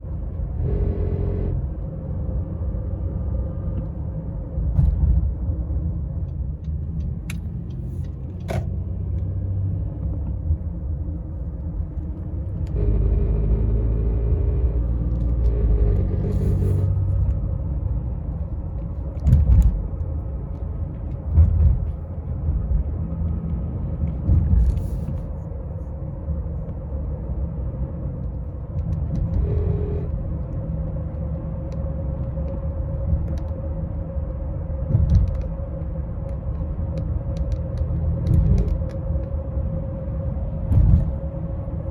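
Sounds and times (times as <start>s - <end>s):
engine droning rumble: 0.0s - 41.9s.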